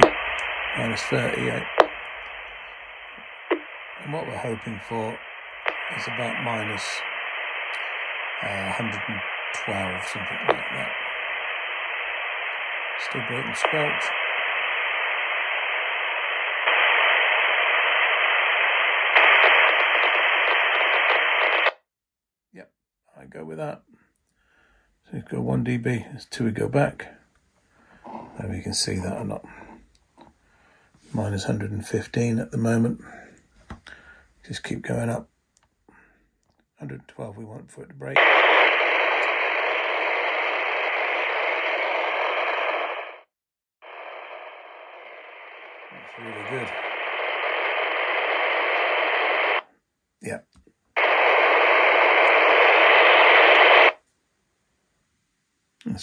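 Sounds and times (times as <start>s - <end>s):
radio receiver hiss: 0.0s - 21.7s, 28.0s - 30.3s, 30.9s - 35.2s, 36.8s - 54.0s.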